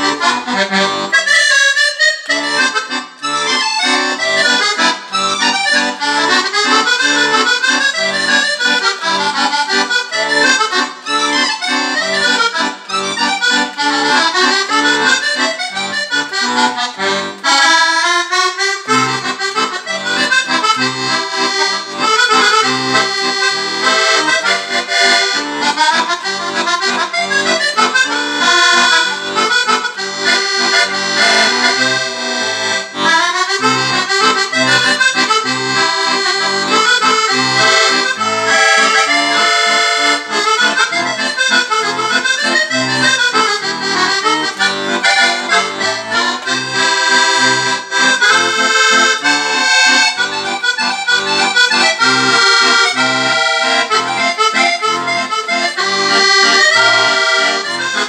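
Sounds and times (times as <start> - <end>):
button accordion playing: 0.0 - 58.0.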